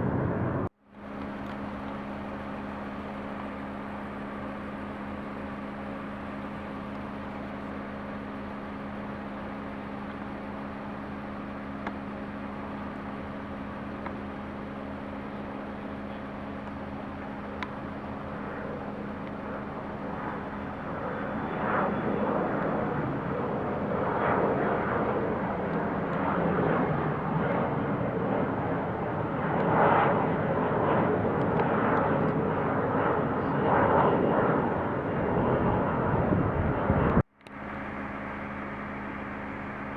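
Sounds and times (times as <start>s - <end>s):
jet airliner engines: 0.0s - 39.9s.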